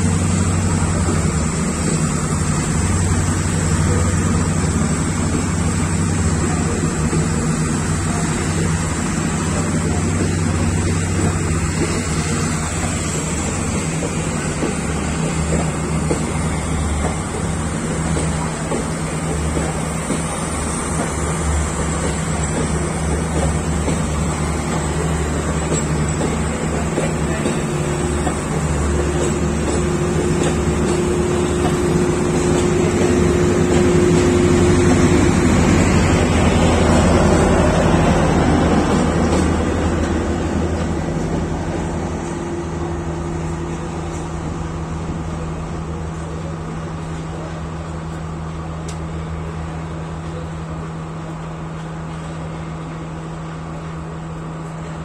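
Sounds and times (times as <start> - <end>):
diesel train rumble: 0.0 - 55.0.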